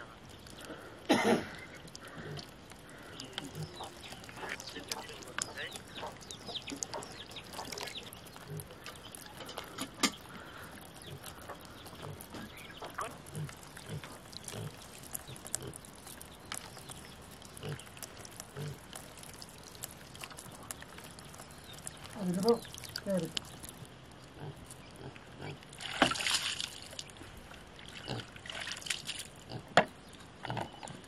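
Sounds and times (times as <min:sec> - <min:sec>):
water trickling from a pipe: 0:00.0 - 0:30.6
water splashing in a basin: 0:01.5 - 0:24.0, 0:25.2 - 0:29.5.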